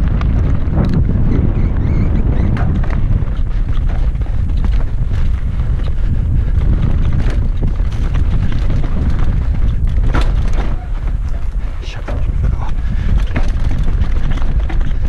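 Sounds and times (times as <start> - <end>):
bike rattling over rocks: 0.0 - 15.0
wind buffeting microphone: 0.0 - 15.0.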